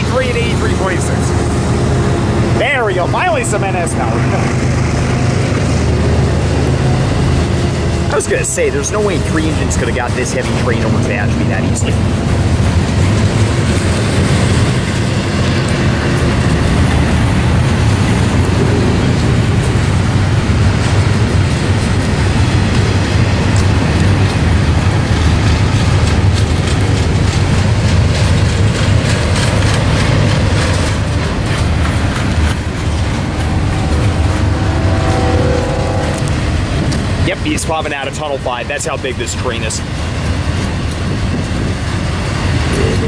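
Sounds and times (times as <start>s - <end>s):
freight train wheels rumbling: 0.0s - 43.0s
wheels clicking over rail joints: 6.9s - 43.0s.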